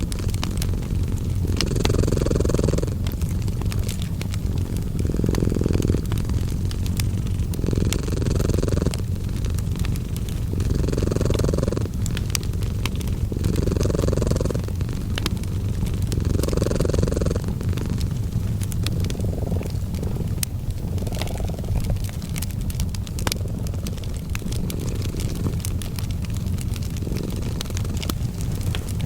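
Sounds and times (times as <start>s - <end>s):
cat purring: 0.0s - 29.0s
fireplace crackling: 0.0s - 29.0s.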